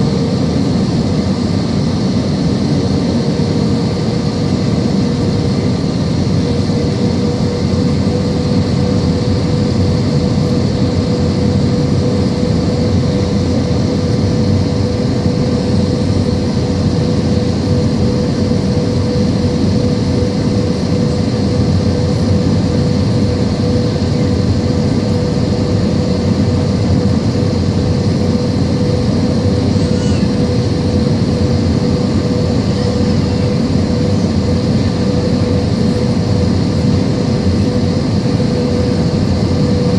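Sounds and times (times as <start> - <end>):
airliner engine and airflow drone: 0.0 - 39.9
steady humming tone: 0.0 - 39.9.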